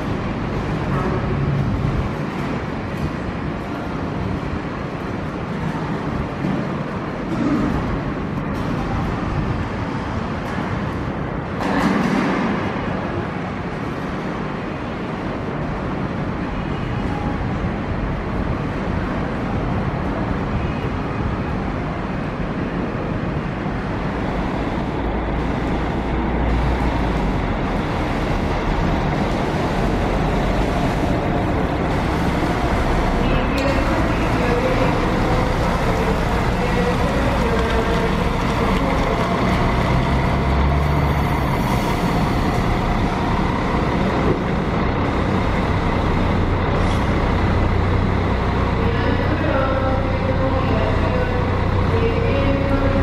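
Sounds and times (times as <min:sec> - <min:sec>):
bus diesel engine running: 0:00.0 - 0:11.6, 0:12.8 - 0:53.0
traffic noise: 0:00.0 - 0:53.0.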